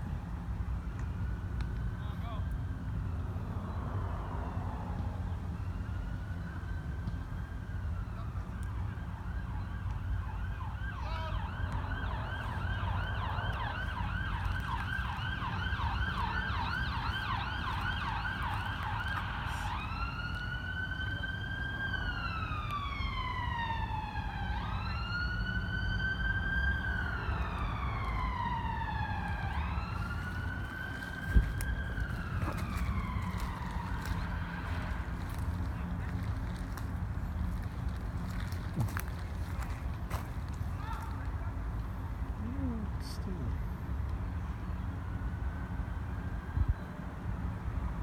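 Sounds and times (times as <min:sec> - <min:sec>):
emergency vehicle siren: 0:00.0 - 0:48.0
low traffic rumble: 0:00.0 - 0:48.0.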